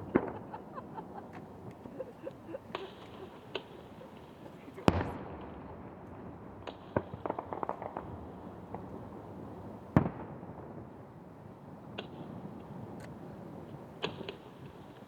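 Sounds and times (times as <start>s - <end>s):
fireworks pops and crackles: 0.0s - 1.9s, 2.6s - 11.1s, 11.8s - 15.0s.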